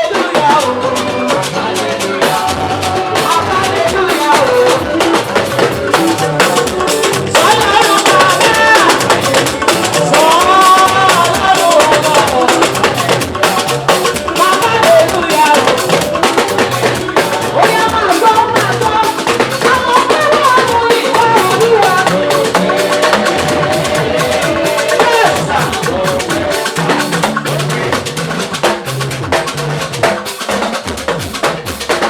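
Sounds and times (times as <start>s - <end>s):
person singing: 0.0s - 28.6s
drums and percussion: 0.0s - 32.0s
gospel band playing: 0.0s - 32.0s.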